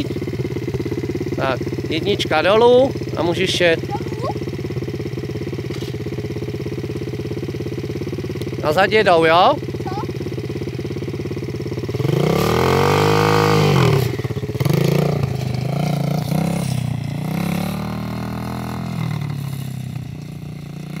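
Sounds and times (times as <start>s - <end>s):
dirt bike engine revving: 0.0s - 6.1s, 8.6s - 21.0s.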